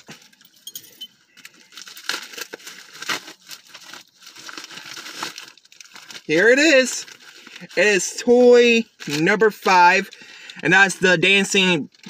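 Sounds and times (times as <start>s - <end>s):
plastic wrapping crinkling and tearing: 1.2s - 12.0s.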